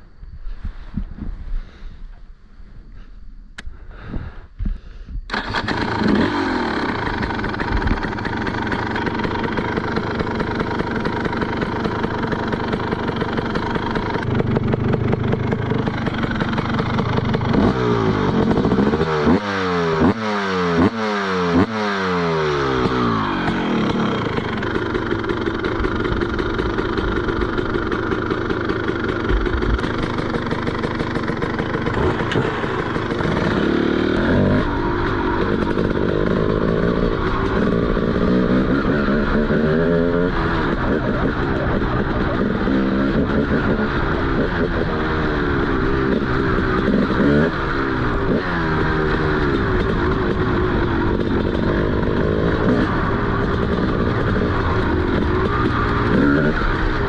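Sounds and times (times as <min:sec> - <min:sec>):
motorcycle engine idling and revving: 0:05.3 - 0:57.0.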